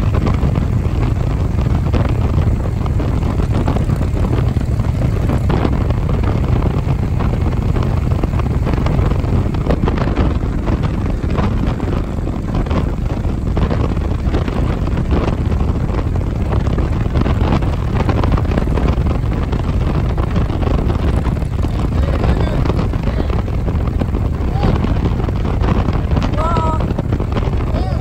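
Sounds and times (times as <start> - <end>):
vehicle engine and road rumble: 0.0 - 28.0
wind buffeting microphone: 0.0 - 28.0.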